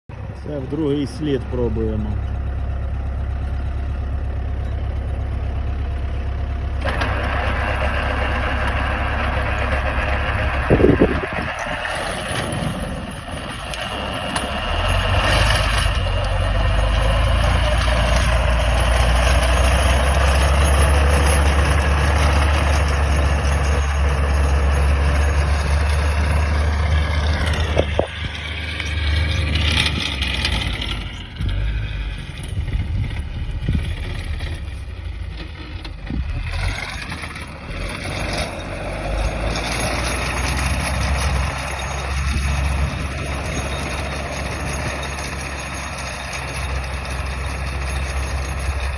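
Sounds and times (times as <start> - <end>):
tractor diesel engine under load: 0.1 - 48.9.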